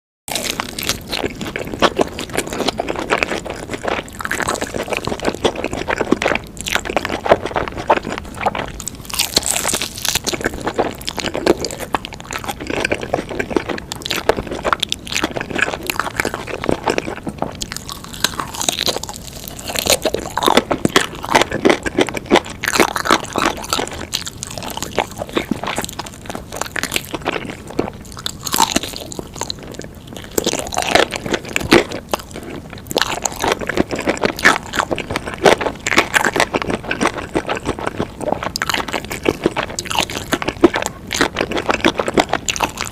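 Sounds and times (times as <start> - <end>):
person chewing crunchy food: 0.3 - 42.9.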